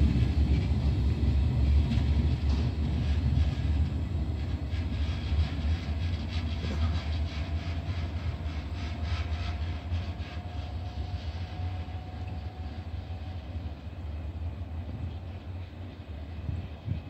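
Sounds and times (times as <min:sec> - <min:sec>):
electric train whine: 0:00.0 - 0:17.0
train low rumble: 0:00.0 - 0:17.0.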